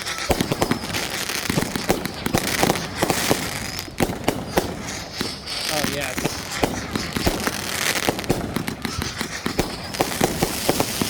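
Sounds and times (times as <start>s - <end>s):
fireworks bangs and pops: 0.0s - 11.0s
fireworks crackling: 0.0s - 11.0s.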